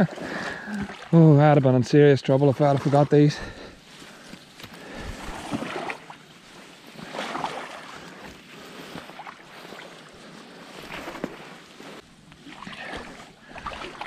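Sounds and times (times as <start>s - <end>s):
water sloshing around legs: 0.0s - 1.7s, 2.4s - 14.0s.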